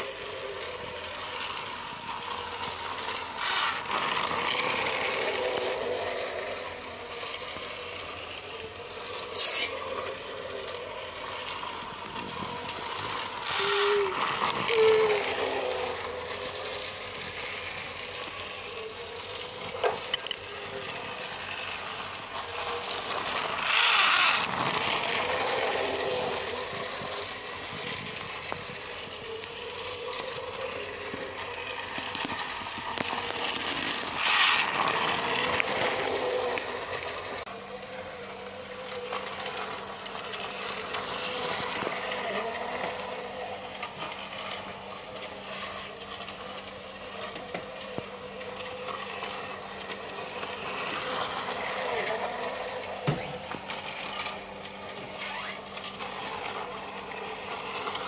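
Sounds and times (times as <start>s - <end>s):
plastic wheels rattling on track: 0.0s - 58.0s
toy train motor whirring: 0.0s - 58.0s.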